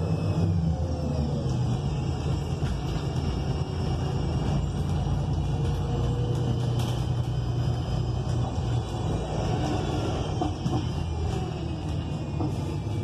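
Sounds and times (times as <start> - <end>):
bus engine running: 0.0 - 13.0
road rumble: 0.0 - 13.0.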